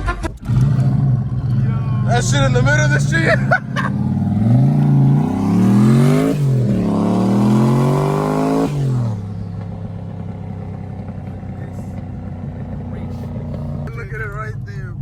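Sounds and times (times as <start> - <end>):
car engine accelerating hard: 0.2 - 15.0.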